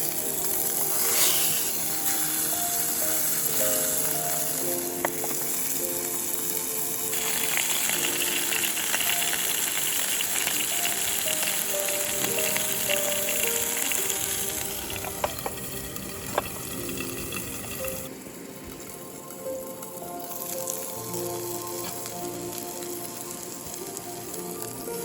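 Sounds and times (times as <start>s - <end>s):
food sizzling in a frying pan: 0.0s - 25.0s
slow melodic background music: 0.0s - 25.0s.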